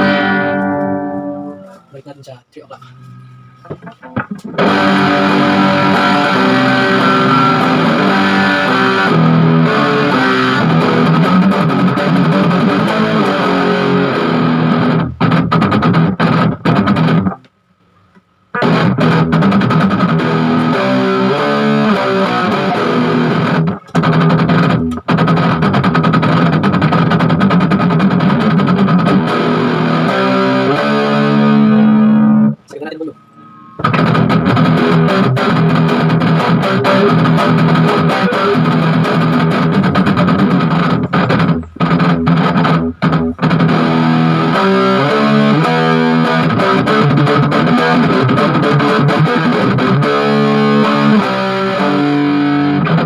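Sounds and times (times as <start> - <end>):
distorted electric guitar riffs: 0.0 - 53.0.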